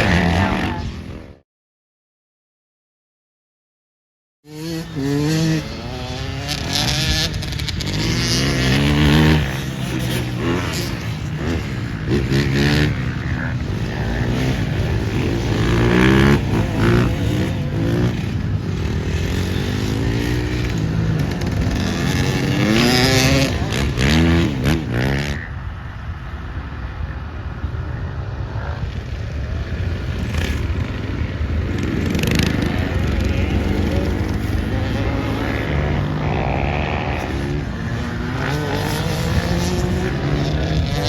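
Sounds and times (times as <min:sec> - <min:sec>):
motocross bikes revving: 0:00.0 - 0:01.4, 0:04.5 - 0:41.0.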